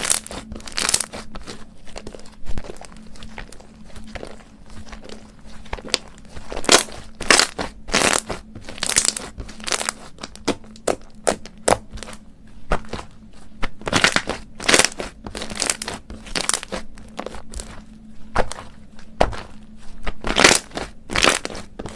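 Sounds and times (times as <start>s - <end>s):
slime squished by hand: 0.0s - 21.9s.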